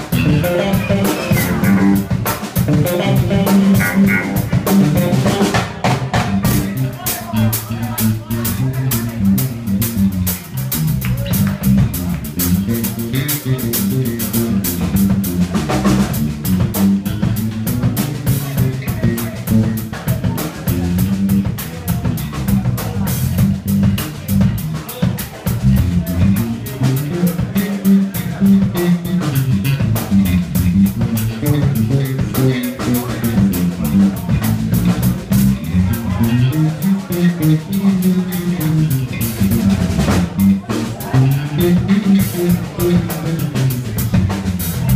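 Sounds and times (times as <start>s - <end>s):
drum kit with cymbals: 0.0s - 44.9s
electric bass: 0.0s - 44.9s
electric guitars: 0.0s - 44.9s.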